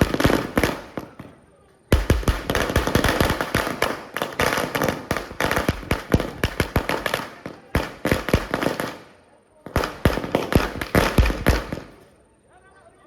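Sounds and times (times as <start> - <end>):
firecrackers banging: 0.0 - 12.1.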